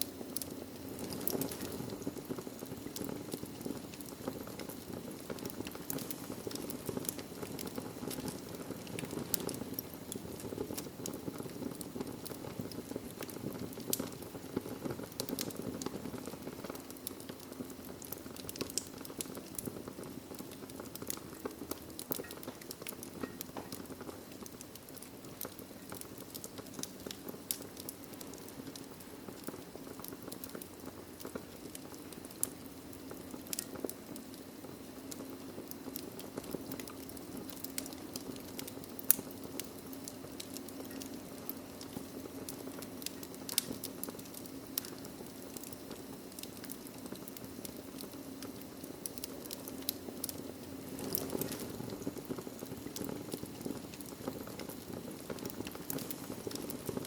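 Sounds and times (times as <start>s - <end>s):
low rush of flames: 0.0s - 57.0s
wood fire popping and snapping: 0.0s - 57.0s.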